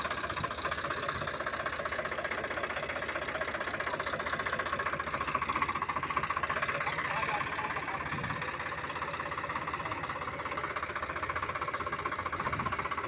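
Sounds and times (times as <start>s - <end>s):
tractor diesel engine knocking: 0.0s - 13.0s.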